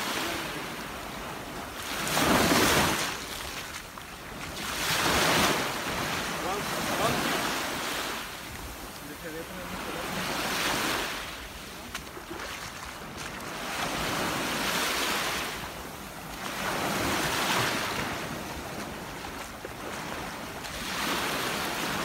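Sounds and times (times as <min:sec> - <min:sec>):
ocean waves washing ashore: 0:00.0 - 0:22.0.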